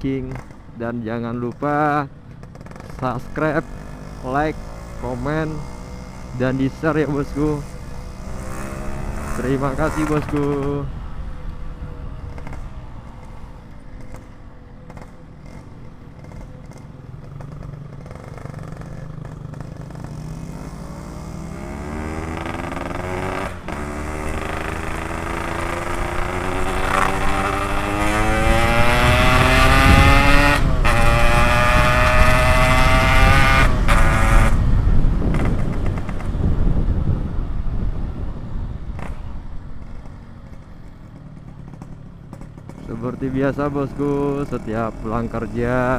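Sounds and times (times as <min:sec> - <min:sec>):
motorcycle accelerating: 0:00.0 - 0:45.9.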